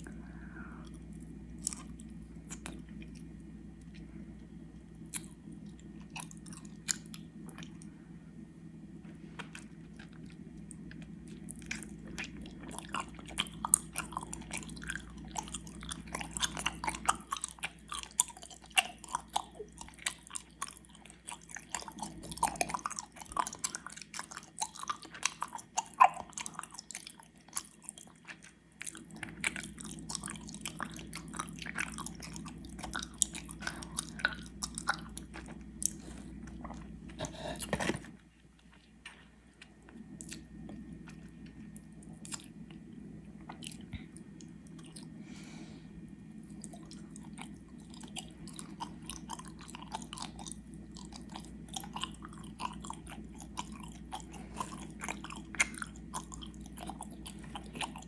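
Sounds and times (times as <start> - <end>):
close chewing sounds: 0.0 - 7.9, 9.2 - 45.2, 46.2 - 58.0.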